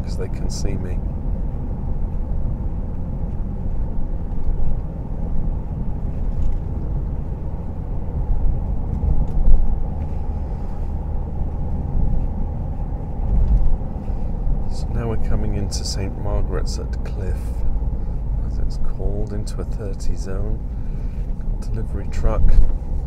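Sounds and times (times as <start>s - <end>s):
car road rumble: 0.0s - 23.0s.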